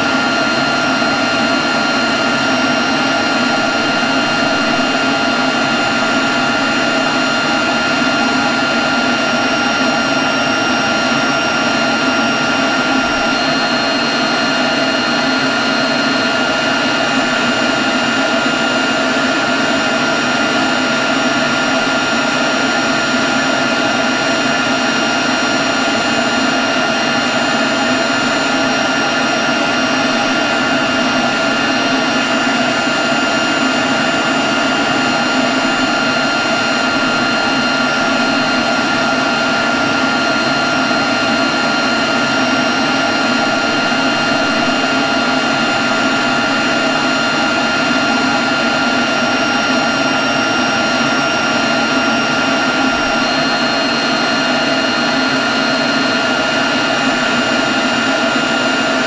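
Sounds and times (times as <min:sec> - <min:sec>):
leaf blower running: 0:00.0 - 0:59.0.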